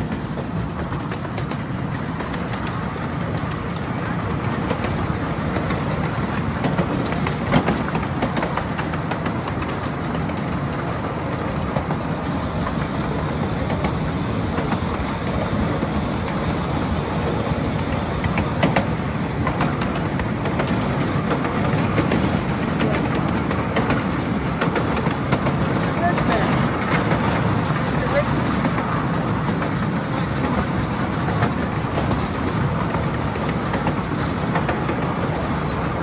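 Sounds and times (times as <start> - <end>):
railway car wheels rumbling on track: 0.0 - 36.0
wheel clicks and clacks: 0.0 - 36.0.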